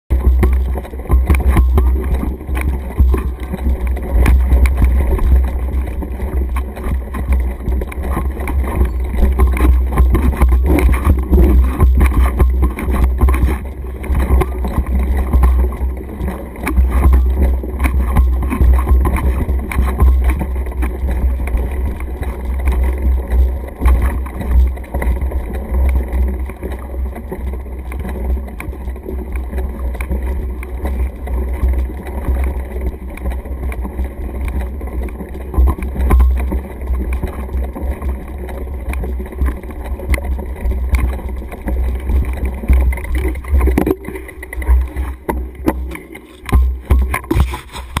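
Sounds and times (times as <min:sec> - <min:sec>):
bike rattles and knocks: 0:00.1 - 0:48.0.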